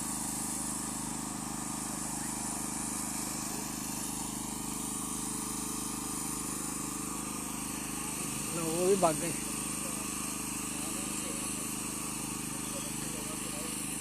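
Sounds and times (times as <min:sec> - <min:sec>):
constant high hiss: 0:00.0 - 0:14.0
low mechanical hum: 0:00.0 - 0:14.0.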